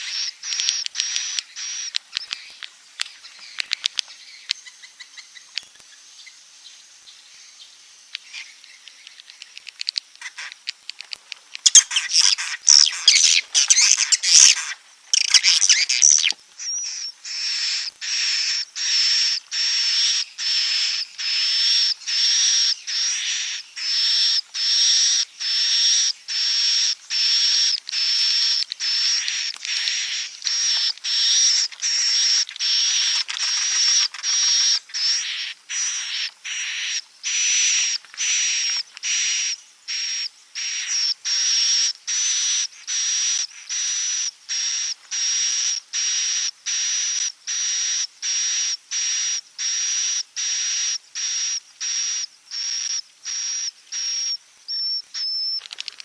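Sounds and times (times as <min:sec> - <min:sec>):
swiftlets twittering: 0:00.0 - 0:04.0, 0:09.1 - 0:56.0
buzzy bird chirps: 0:00.0 - 0:56.0.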